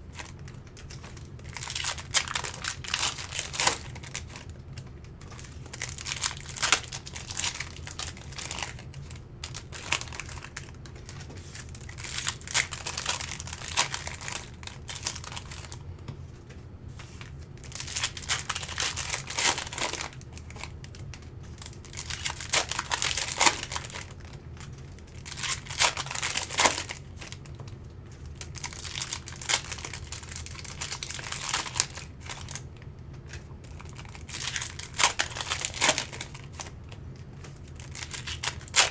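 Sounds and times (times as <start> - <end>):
card wrappers crinkling and tearing: 0.0 - 15.8, 17.1 - 38.9
low steady hum: 0.0 - 38.9.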